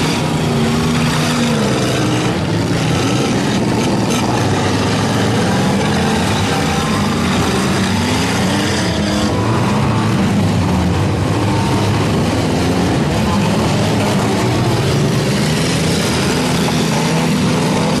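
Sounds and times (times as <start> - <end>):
car engines revving together: 0.0 - 18.0.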